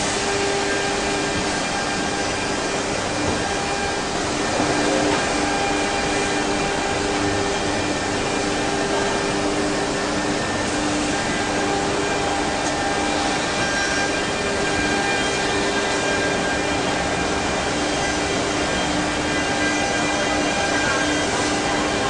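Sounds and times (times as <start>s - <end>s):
wood router cutting wood: 0.0s - 22.0s.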